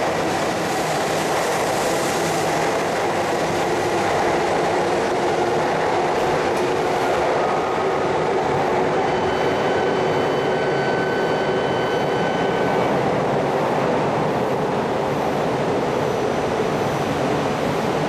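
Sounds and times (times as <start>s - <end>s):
train running noise echoing: 0.0s - 18.0s.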